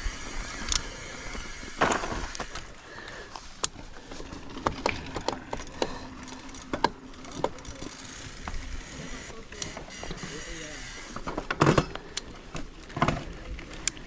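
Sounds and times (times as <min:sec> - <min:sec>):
light clicks and knocks on bike: 0:00.0 - 0:14.0.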